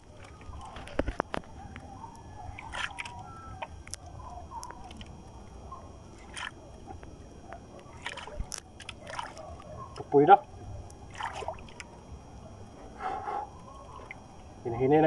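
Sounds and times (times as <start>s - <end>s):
low rumble of water and boat: 0.0s - 14.6s.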